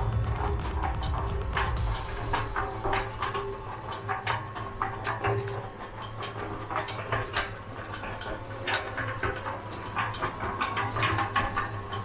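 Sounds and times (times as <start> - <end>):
concrete mixer motor hum: 0.0 - 12.0
drum clacking and rattling: 0.0 - 12.0.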